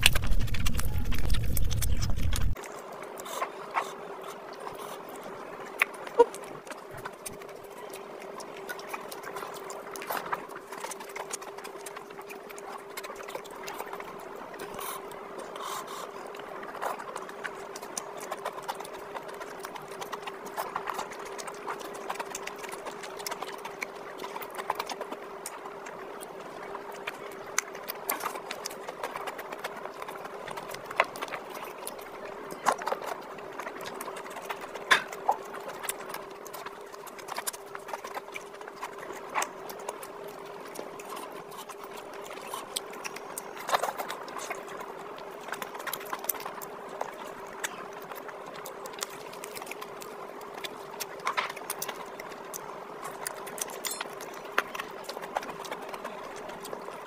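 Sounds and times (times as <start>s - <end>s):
faint hum: 0.0s - 57.0s
wet chewing and lip smacks: 0.0s - 57.0s.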